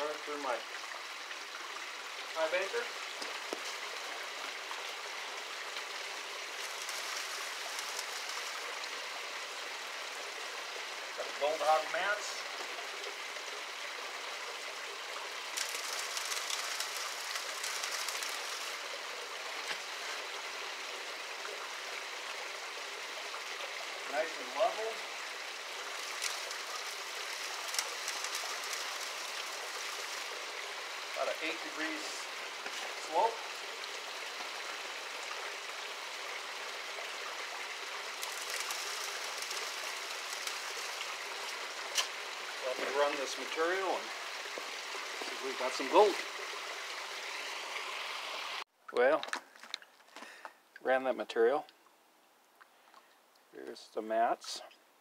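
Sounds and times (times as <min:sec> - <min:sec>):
water running and splashing: 0:00.0 - 0:48.6.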